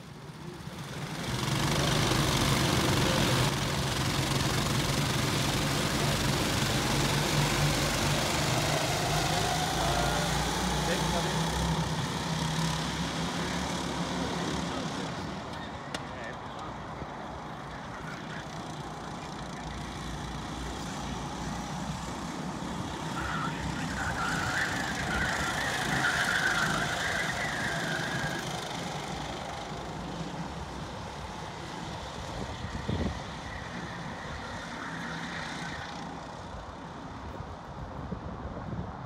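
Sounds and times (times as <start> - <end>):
karts racing engines buzzing: 0.0 - 37.5.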